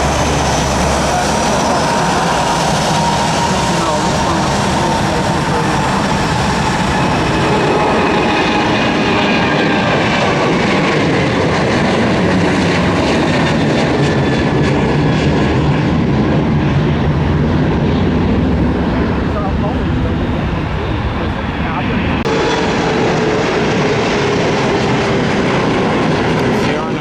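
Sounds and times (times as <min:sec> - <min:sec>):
jet airliner engines roaring: 0:00.0 - 0:27.0.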